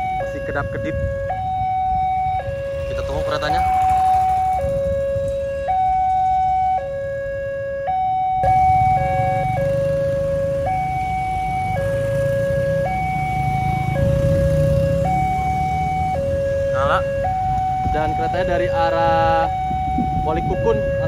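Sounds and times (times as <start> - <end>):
engines idling: 0.0 - 7.0, 8.0 - 21.0
two-tone crossing alarm: 0.0 - 21.0.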